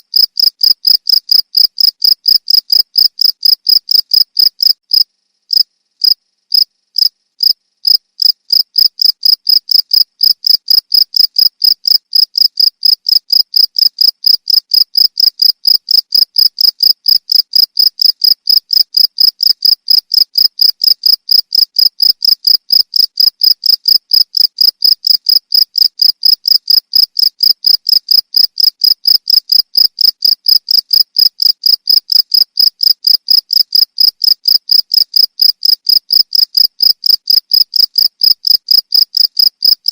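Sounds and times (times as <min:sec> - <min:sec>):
cricket chirping: 0:00.1 - 0:39.9.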